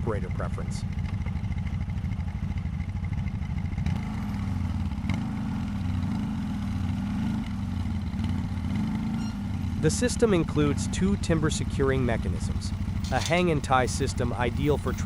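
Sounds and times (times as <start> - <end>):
atv engine running under load: 0.0 - 15.0.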